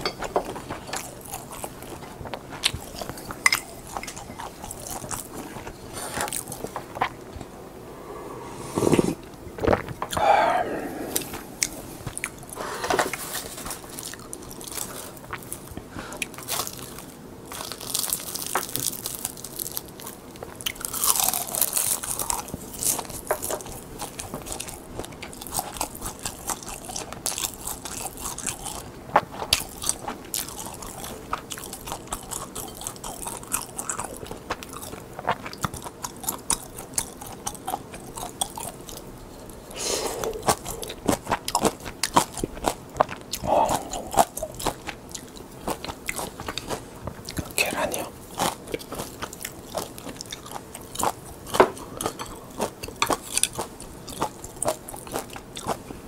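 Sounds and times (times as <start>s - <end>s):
crunching and chewing seaweed sheets: 0.0s - 7.5s, 11.1s - 56.0s.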